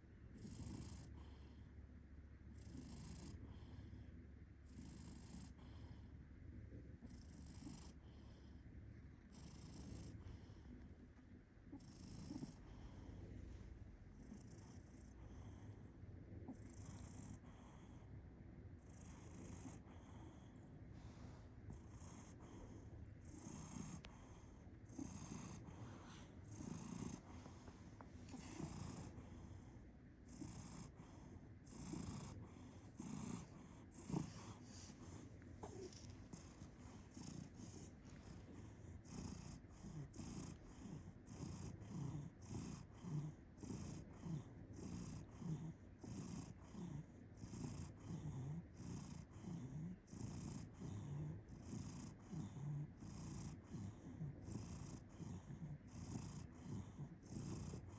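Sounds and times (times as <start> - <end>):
cat purring and snoring: 0.2 - 57.9.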